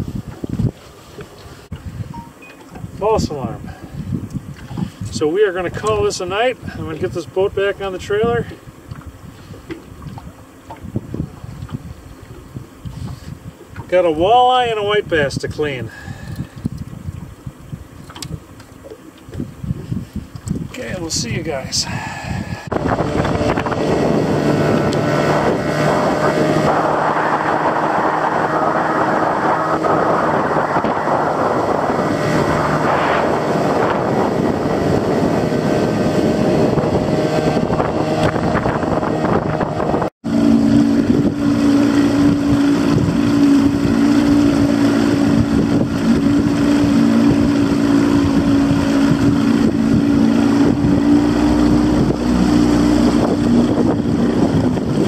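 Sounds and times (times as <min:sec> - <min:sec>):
outboard motor running: 0:00.0 - 0:55.0
wind and water rushing: 0:00.0 - 0:55.0.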